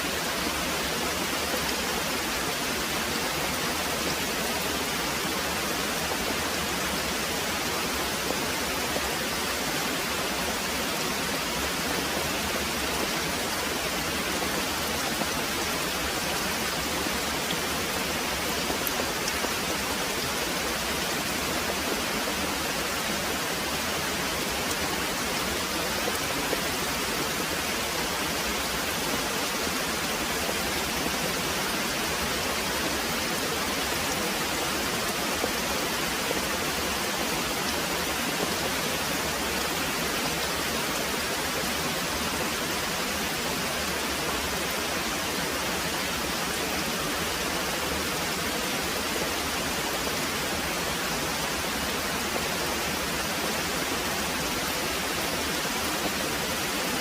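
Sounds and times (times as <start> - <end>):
very heavy rain pouring: 0.0 - 57.0.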